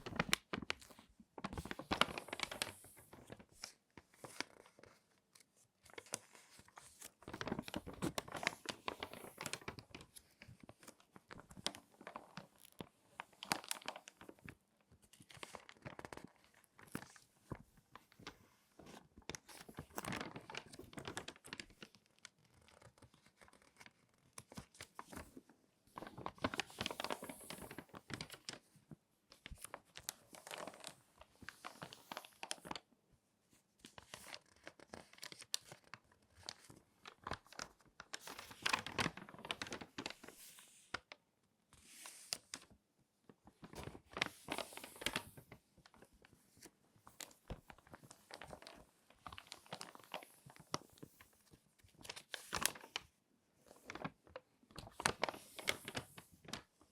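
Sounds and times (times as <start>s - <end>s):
magazine pages crackling: 0.0s - 28.7s, 29.3s - 32.8s, 33.9s - 41.2s, 43.4s - 56.9s.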